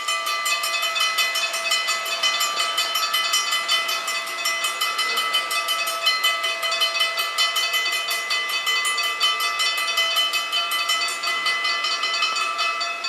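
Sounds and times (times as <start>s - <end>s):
level-crossing bells ringing: 0.0s - 13.0s.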